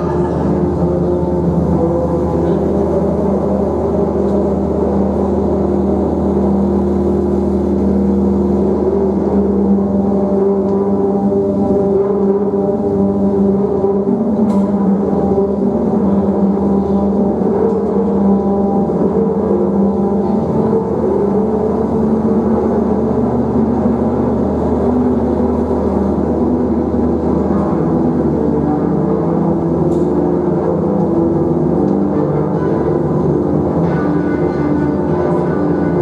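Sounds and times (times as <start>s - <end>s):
drone music sustained tones: 0.0s - 36.0s.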